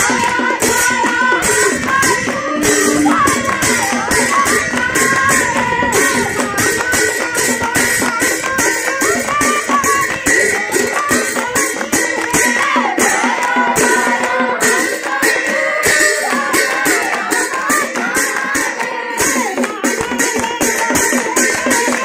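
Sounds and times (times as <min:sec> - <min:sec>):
women chanting together: 0:00.0 - 0:08.2, 0:12.1 - 0:22.0
jingling percussion beat: 0:00.0 - 0:22.0
rhythmic hand clapping: 0:00.0 - 0:22.0.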